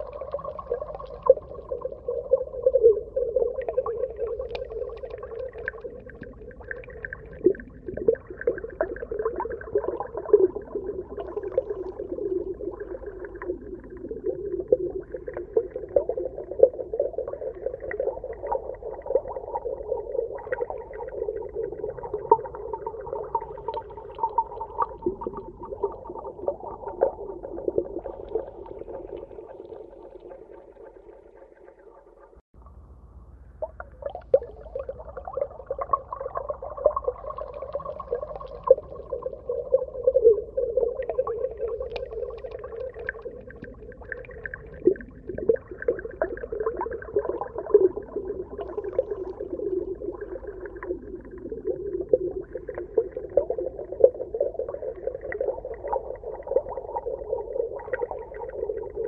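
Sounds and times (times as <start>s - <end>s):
underwater moving water: 0.0s - 32.8s, 33.6s - 59.0s.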